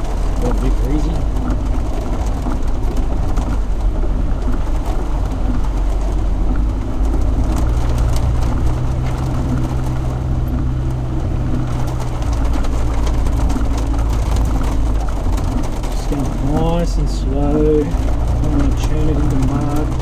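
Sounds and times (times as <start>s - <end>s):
car engine running low: 0.0s - 20.0s.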